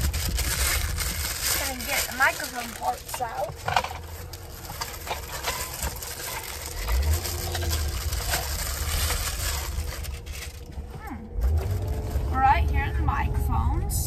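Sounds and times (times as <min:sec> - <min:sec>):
packaging rustling and crinkling: 0:00.0 - 0:12.4
low car rumble: 0:00.0 - 0:14.0.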